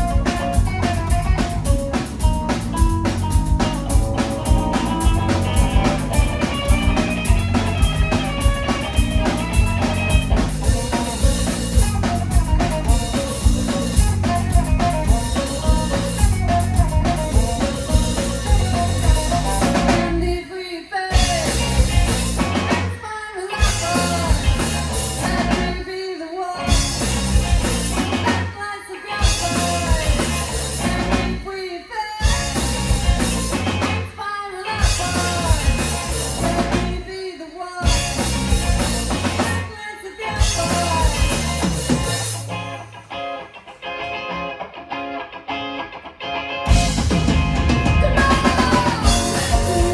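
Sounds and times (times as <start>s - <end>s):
rock band playing: 0.0s - 49.9s.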